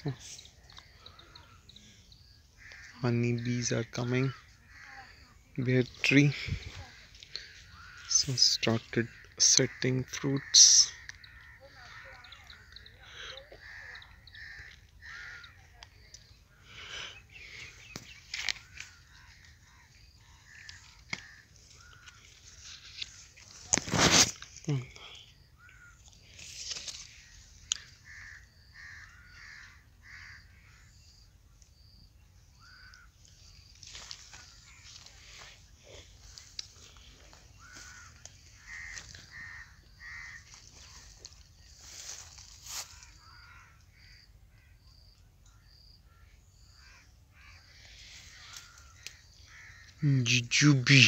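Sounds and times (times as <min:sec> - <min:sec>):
faint bird calls: 0:00.0 - 0:51.0.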